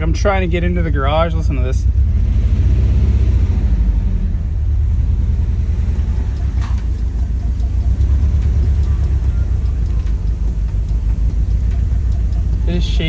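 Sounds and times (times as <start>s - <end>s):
car engine running rough: 0.0s - 13.0s.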